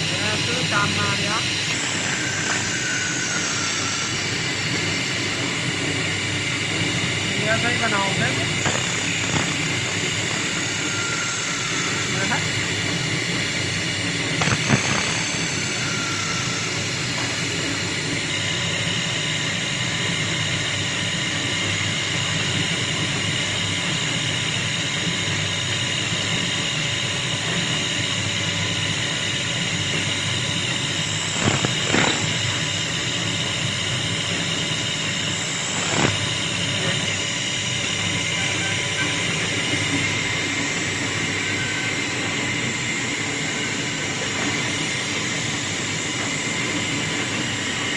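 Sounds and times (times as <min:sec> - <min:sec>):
chisel cutting spinning wood: 0:00.0 - 0:47.9
wood lathe running: 0:00.0 - 0:47.9.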